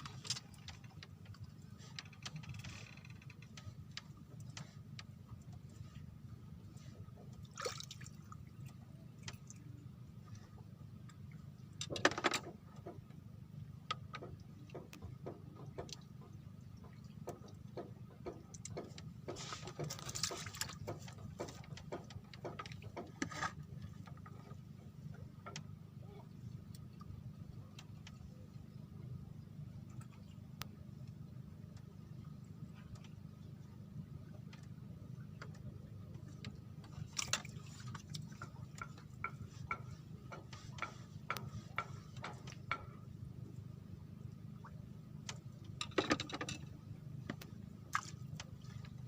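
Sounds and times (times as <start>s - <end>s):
low hum: 0.0s - 49.0s
water splashing and sloshing: 0.0s - 49.0s.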